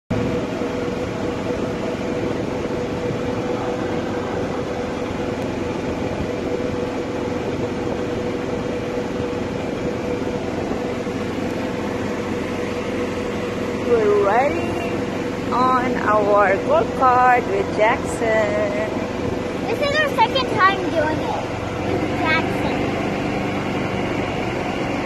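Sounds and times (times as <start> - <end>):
ride noise rushing: 0.1 - 23.5
golf cart hum: 0.1 - 25.0.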